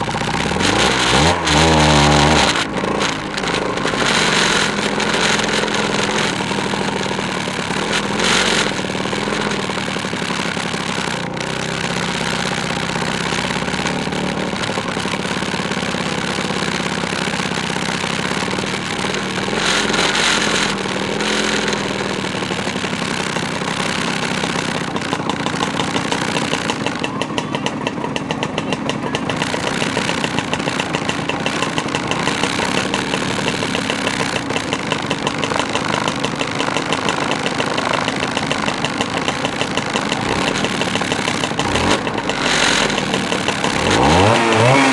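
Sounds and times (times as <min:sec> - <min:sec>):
two-stroke scooter engines running: 0:00.0 - 0:44.9.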